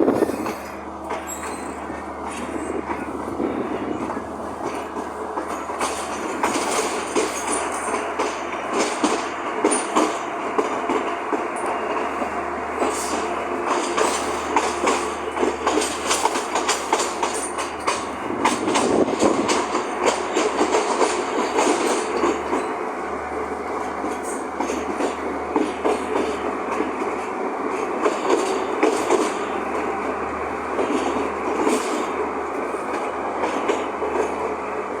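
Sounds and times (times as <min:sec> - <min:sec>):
train rumble and rattle: 0:00.0 - 0:35.0
wheels clicking over rail joints: 0:00.0 - 0:35.0.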